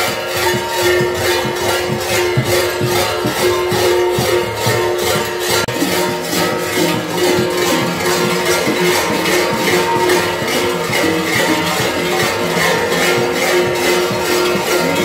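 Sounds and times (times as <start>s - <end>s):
large metal bells clanging: 0.0s - 15.0s.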